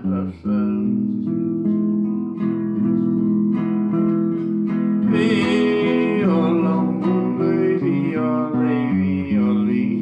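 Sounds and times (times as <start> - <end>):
strummed acoustic guitar chords: 0.0 - 10.0.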